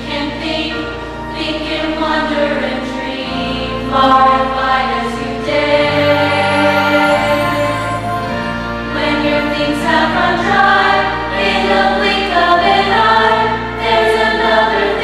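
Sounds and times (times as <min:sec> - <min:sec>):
chorus of young voices singing: 0:00.0 - 0:15.0
instrumental accompaniment: 0:00.0 - 0:15.0.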